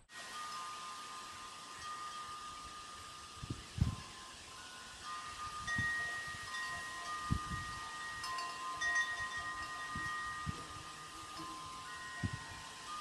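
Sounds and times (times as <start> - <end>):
metallic chimes ringing: 0.1 - 13.0.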